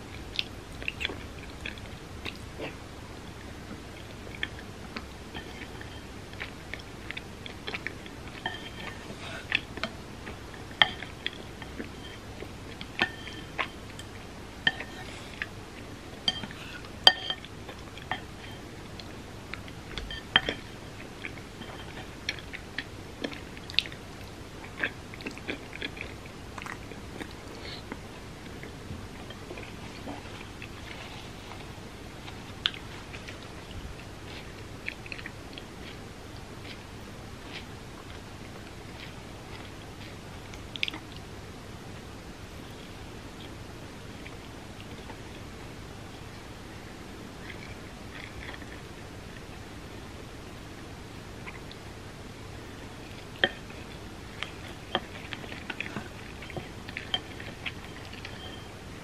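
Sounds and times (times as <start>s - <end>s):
person chewing food: 0.1s - 41.3s, 42.0s - 49.6s, 51.4s - 51.9s, 52.6s - 58.9s.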